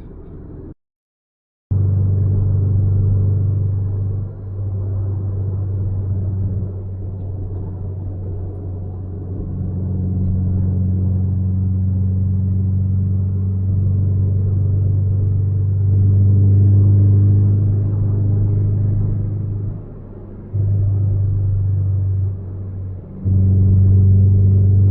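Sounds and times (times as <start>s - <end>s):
car exhaust drone: 1.7s - 24.9s.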